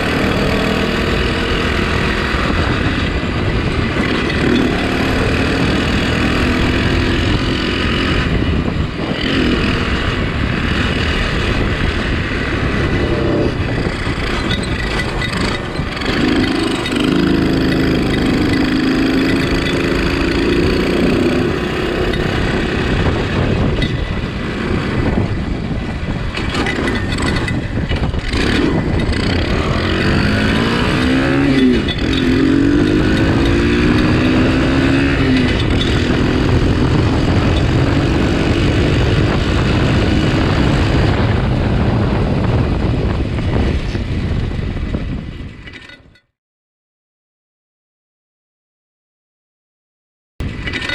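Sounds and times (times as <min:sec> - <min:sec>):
go-kart engine revving: 0:00.0 - 0:42.8, 0:50.4 - 0:50.9
steady rushing noise: 0:00.0 - 0:45.6.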